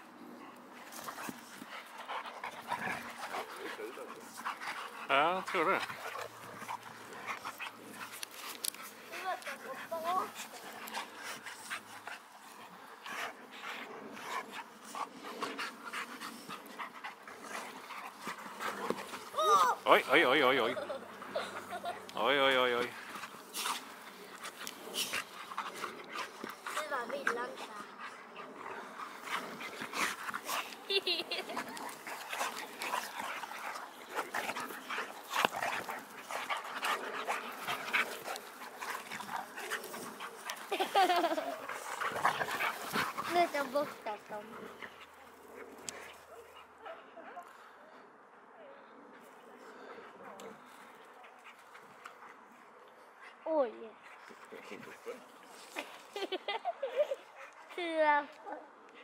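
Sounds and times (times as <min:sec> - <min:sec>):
dogs panting: 0:00.0 - 0:59.0.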